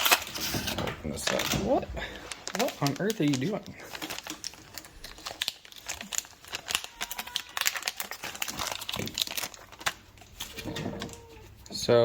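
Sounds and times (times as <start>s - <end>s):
plastic packaging crinkling and tearing: 0.0s - 11.8s.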